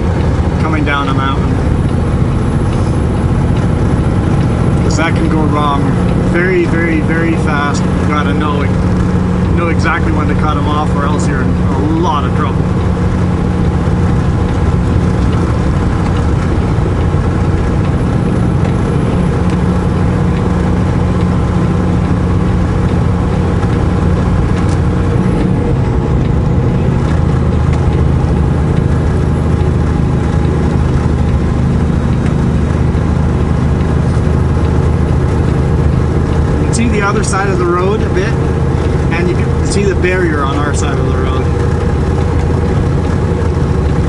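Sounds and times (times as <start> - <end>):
diesel truck engine droning: 0.0 - 44.0.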